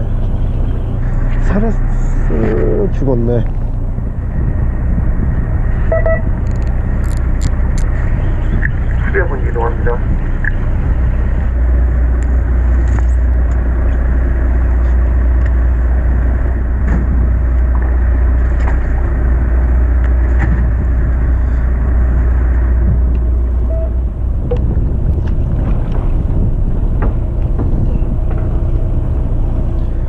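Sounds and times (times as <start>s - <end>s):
boat engine drone: 0.0s - 30.0s
wind: 0.0s - 30.0s.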